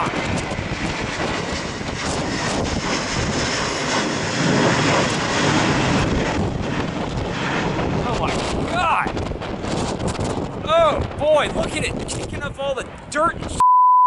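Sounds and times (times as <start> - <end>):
jet engines roaring: 0.0 - 13.6
wind buffeting microphone: 0.0 - 13.6.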